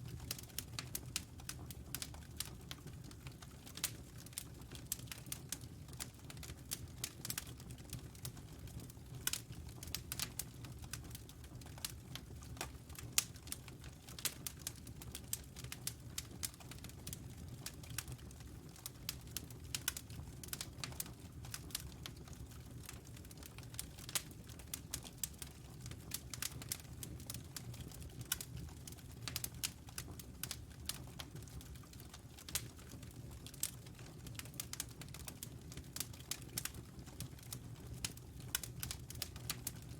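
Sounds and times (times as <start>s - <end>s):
wood fire crackling and popping: 0.0s - 39.9s
low rumble of flames: 0.1s - 39.9s.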